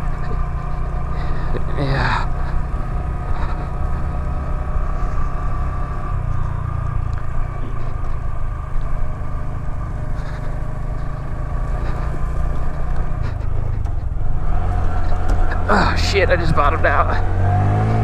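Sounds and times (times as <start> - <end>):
heavy low rumble: 0.0 - 18.0
motorcycle engine running: 0.0 - 18.0.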